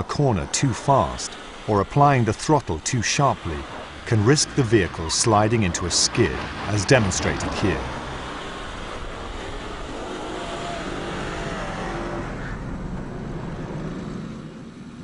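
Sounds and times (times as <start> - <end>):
car engine revving: 0.1 - 14.7.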